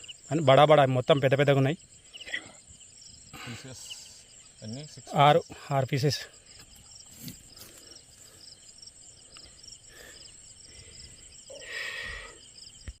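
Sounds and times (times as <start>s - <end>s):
insects chirping: 0.0s - 13.0s
outdoor background noise: 0.0s - 13.0s.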